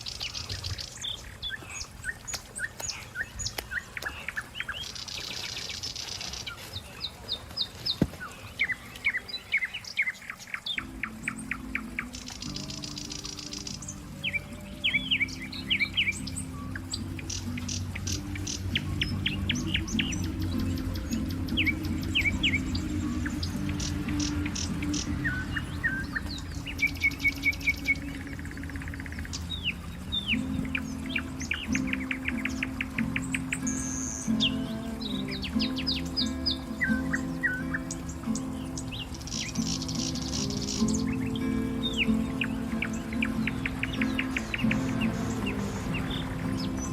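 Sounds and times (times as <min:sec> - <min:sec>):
small bird chirping: 0:00.0 - 0:46.9.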